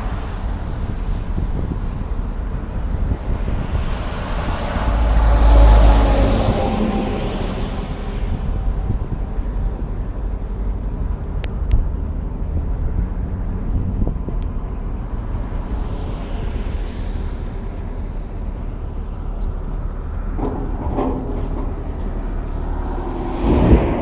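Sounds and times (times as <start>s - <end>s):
low wind rumble: 0.0s - 24.0s.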